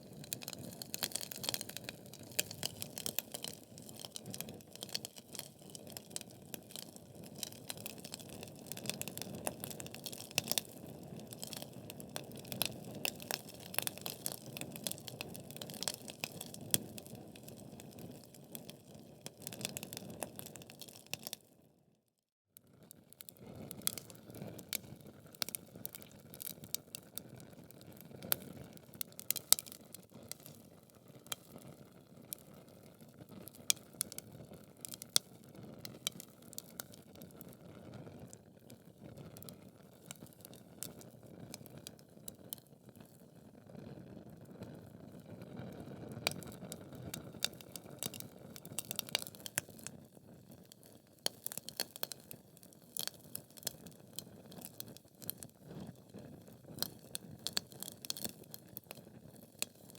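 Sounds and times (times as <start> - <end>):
logs crackling and popping: 0.0 - 21.4, 23.3 - 37.6, 39.3 - 43.2, 46.2 - 49.9, 50.5 - 59.9.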